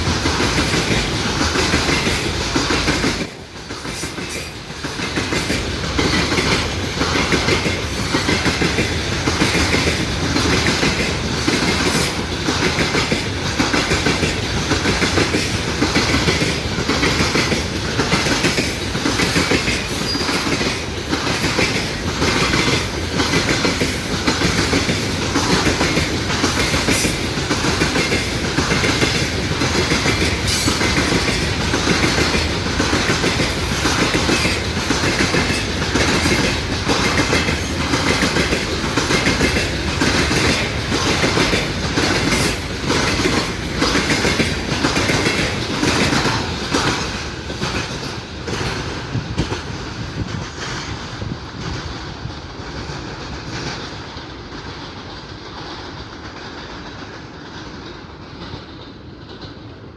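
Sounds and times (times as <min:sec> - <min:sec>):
train wheels clattering over rail joints: 0:00.0 - 0:59.9.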